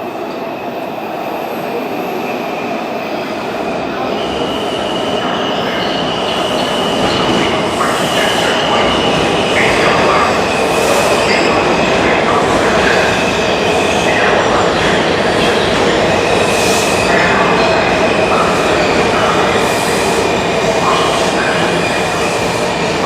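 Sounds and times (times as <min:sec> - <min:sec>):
subway train on rails: 0:00.0 - 0:23.0.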